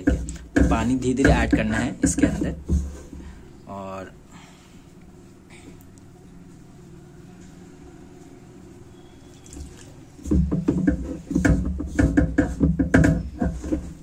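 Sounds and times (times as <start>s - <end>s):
wet dough mixing by hand: 0.0s - 3.5s, 5.0s - 14.0s.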